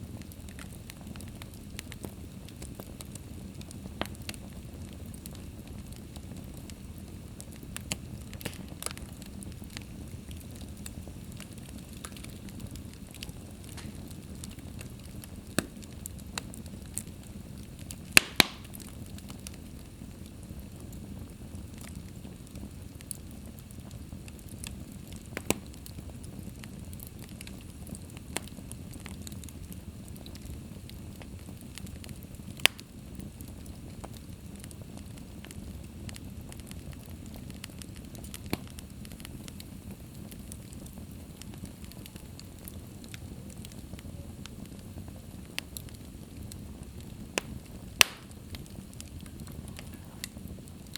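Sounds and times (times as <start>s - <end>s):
fire crackling and popping: 0.0s - 50.9s
low rumble of flames: 0.0s - 50.9s.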